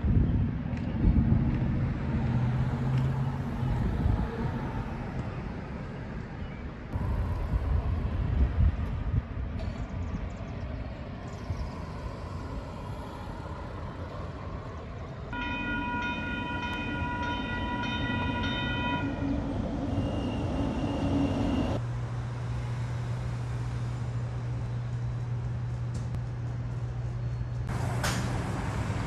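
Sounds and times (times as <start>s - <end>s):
vehicle rumbling: 0.0s - 29.0s.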